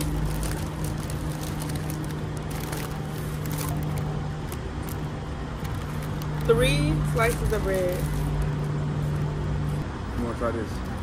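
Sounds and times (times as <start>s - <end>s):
handling clicks and crinkles: 0.0s - 9.3s.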